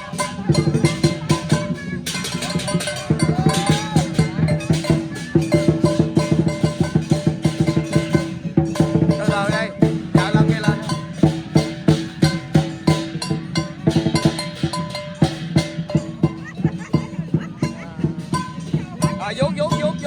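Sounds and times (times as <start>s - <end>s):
drum beaten fast: 0.0s - 20.0s
ringing cymbals: 0.0s - 20.0s.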